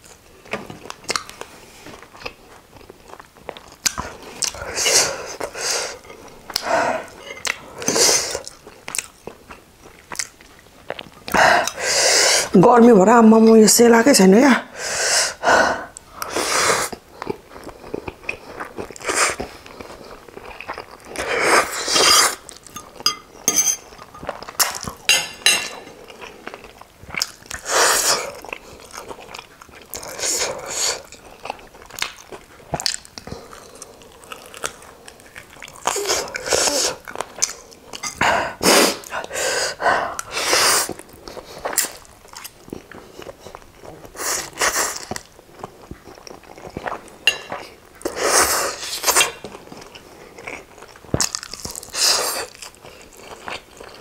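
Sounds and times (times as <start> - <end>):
chewing: 0.8 - 11.8, 16.9 - 38.3, 40.1 - 54.0.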